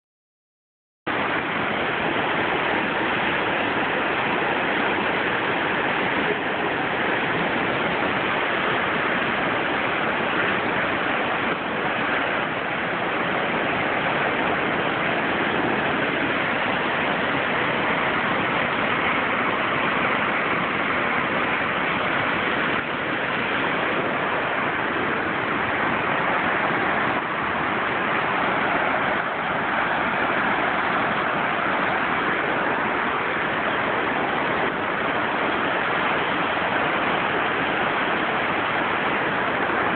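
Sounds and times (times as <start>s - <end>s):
stream rushing: 1.1s - 39.9s.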